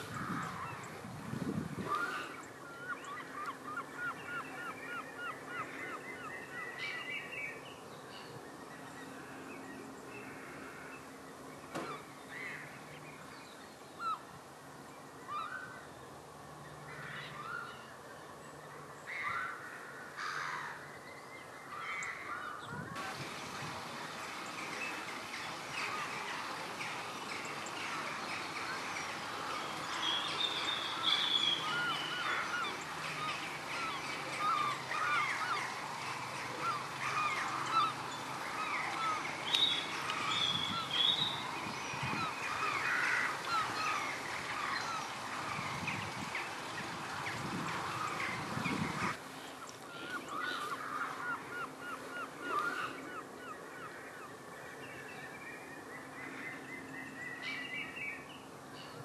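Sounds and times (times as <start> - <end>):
wild birds calling: 0.0 - 59.0.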